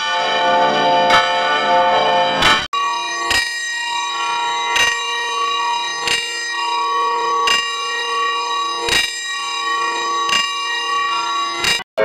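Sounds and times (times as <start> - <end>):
church bell tolling: 0.0 - 11.9.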